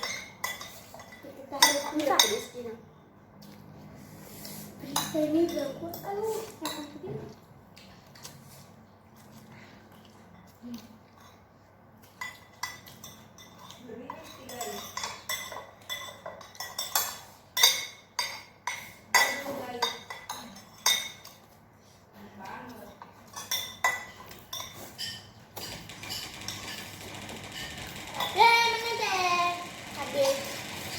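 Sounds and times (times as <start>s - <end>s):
utensils clinking against bowls: 0.0s - 3.6s, 4.6s - 8.3s, 10.0s - 30.9s.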